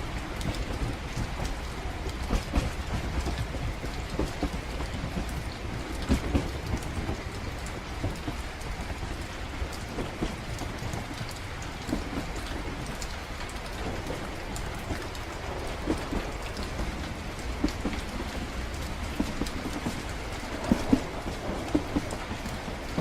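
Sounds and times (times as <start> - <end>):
low rumble of moving train: 0.0 - 23.0
rain against train windows: 0.0 - 23.0
raindrop ticks: 0.0 - 23.0.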